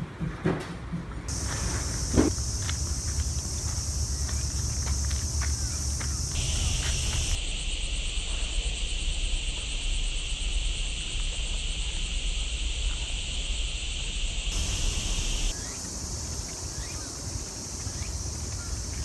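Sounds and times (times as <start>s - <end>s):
high-pitched cicada chorus: 1.3s - 19.0s
lower-pitched cicada chorus: 1.3s - 19.0s.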